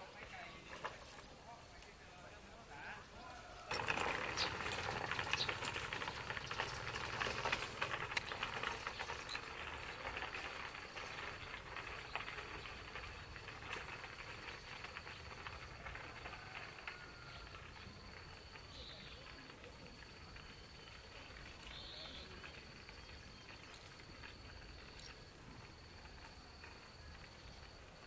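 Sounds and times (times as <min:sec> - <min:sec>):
stroller wheels rattling on concrete: 0:00.0 - 0:28.0.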